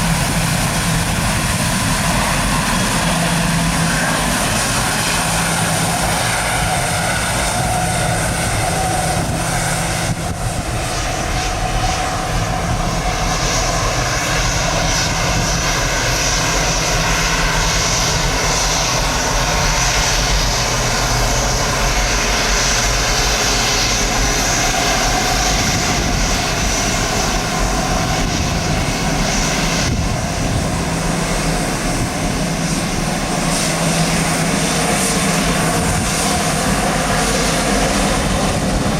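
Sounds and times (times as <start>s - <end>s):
jet engines whining: 0.0s - 38.9s
wind buffeting microphone: 0.0s - 38.9s.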